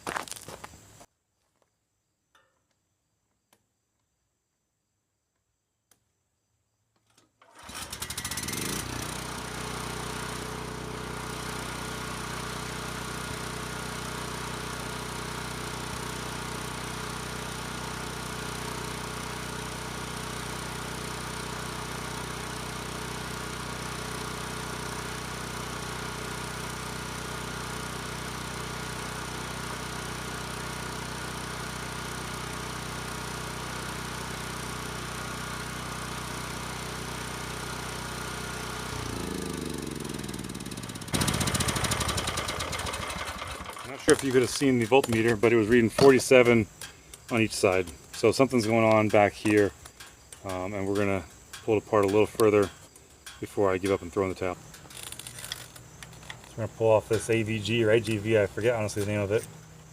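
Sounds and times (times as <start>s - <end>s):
portable generator engine running: 7.5s - 59.9s.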